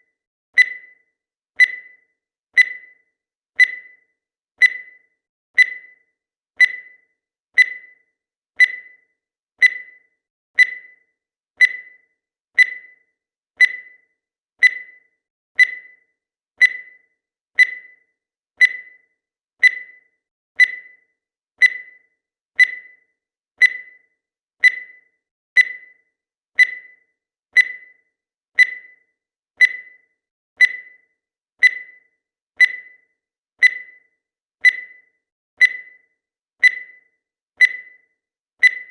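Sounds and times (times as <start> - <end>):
timer beeping: 0.0 - 38.9.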